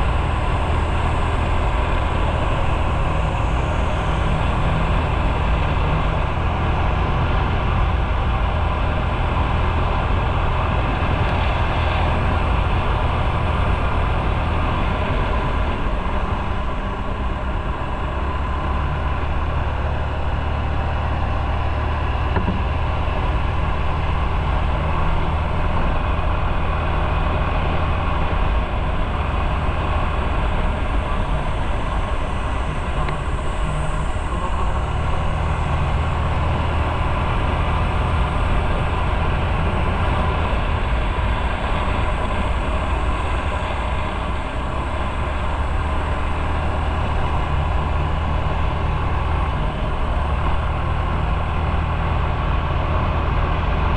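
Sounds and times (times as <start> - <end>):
rushing noise: 0.0 - 53.9.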